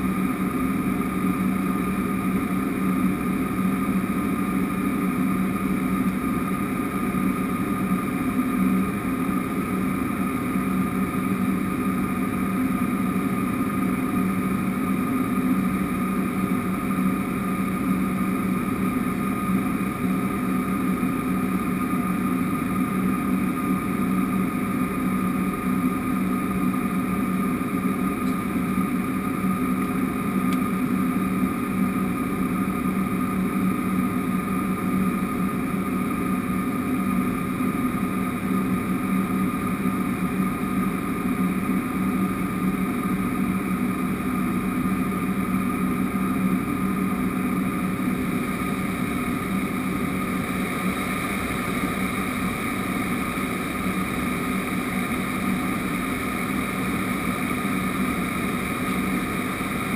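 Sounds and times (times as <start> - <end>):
high engine whine: 0.0 - 59.9
turboprop engine drone: 0.0 - 59.9.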